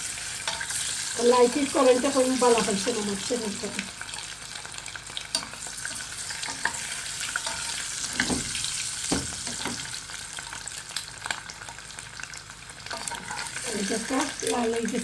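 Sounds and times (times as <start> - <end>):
egg sizzling in hot oil: 0.0 - 15.0.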